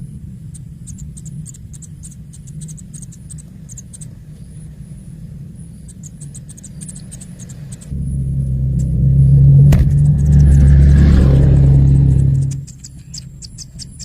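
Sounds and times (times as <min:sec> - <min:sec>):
low engine rumble: 0:00.0 - 0:13.5.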